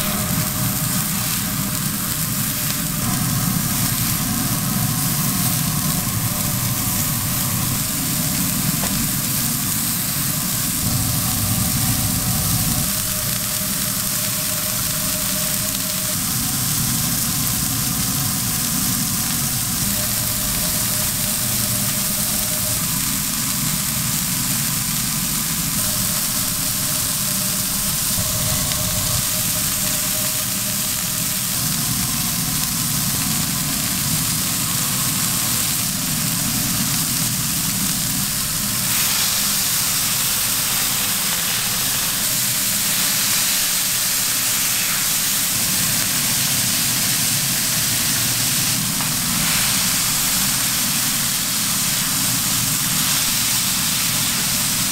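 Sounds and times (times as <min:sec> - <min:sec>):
low mechanical hum: 0:00.0 - 0:54.9
meat sizzling on a griddle: 0:00.0 - 0:54.9.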